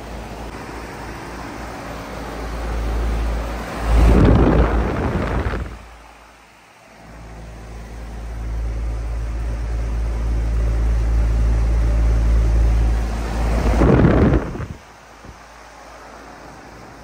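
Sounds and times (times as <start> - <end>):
fan air rushing on microphone: 0.0 - 17.0
heat pump compressor hum: 0.0 - 17.0.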